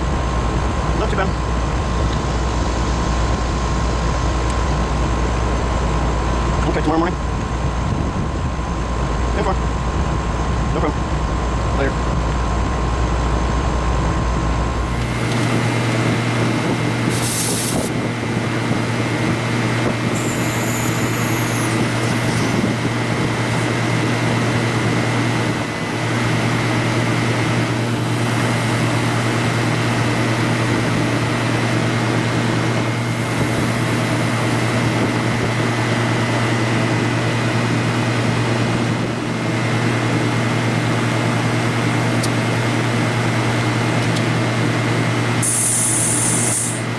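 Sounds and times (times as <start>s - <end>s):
air conditioner compressor hum: 0.0s - 46.9s
condenser fan rushing: 0.0s - 46.9s.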